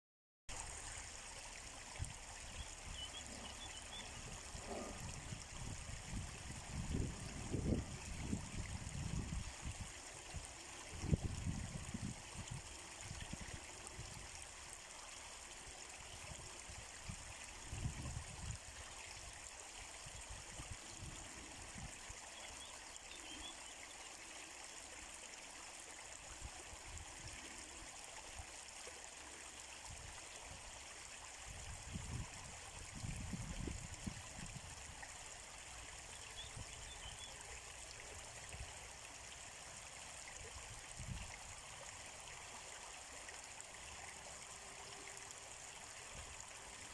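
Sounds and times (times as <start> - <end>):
water trickling over stones: 0.5 - 46.9.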